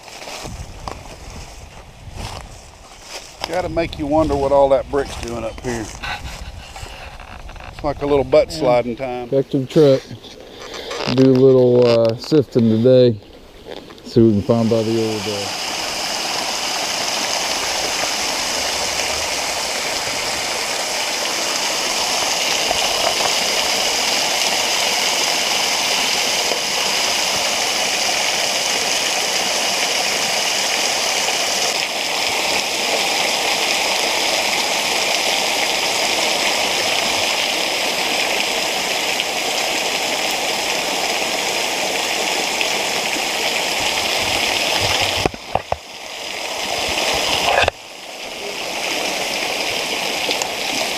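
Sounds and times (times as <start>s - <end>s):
water rushing in rocky creek: 0.0s - 50.9s.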